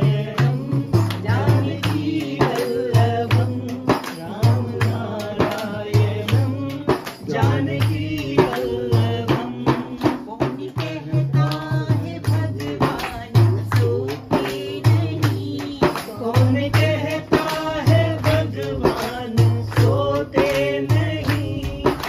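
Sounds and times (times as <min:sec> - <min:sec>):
frame drum beating: 0:00.0 - 0:22.0
hand claps: 0:00.0 - 0:22.0
woman singing: 0:00.0 - 0:22.0.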